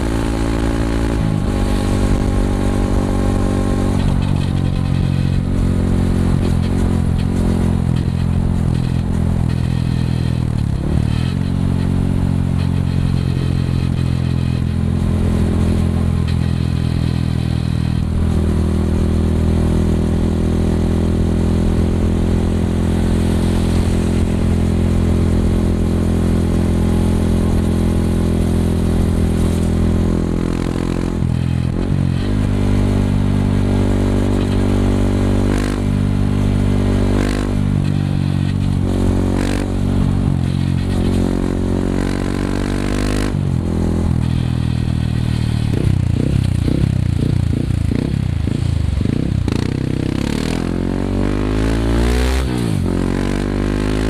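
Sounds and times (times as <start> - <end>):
motorcycle engine riding: 0.0 - 54.0.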